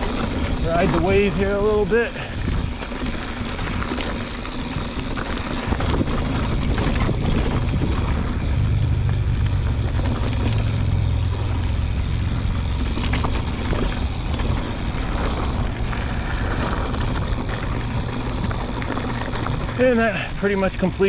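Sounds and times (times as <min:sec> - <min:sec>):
wind buffeting microphone: 0:00.0 - 0:20.1
bike clicks and rattles: 0:00.0 - 0:21.0
tyres on loose dirt and rock: 0:00.0 - 0:21.0.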